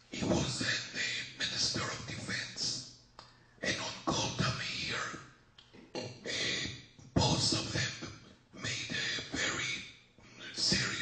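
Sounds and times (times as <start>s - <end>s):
person speaking: 0.0s - 2.8s, 3.6s - 11.0s.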